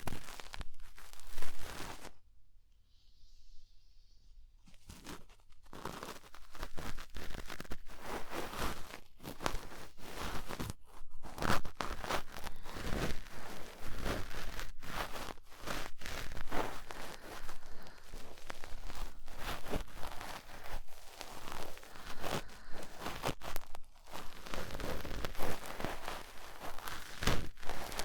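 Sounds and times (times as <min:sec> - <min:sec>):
cotton swab scratching in ear: 0:04.7 - 0:28.0.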